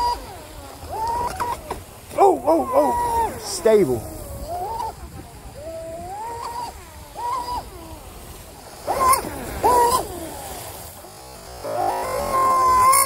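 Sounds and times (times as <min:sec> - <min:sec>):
electric motor whining: 0:00.0 - 0:13.0
water spray hissing: 0:00.0 - 0:13.0.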